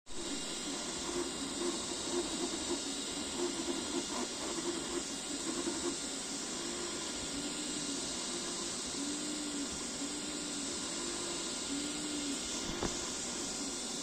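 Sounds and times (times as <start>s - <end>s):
cooling fans hissing: 0.1s - 14.0s.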